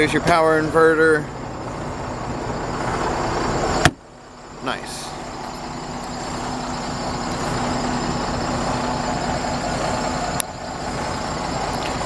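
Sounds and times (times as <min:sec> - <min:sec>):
diesel truck idling: 0:00.0 - 0:12.0.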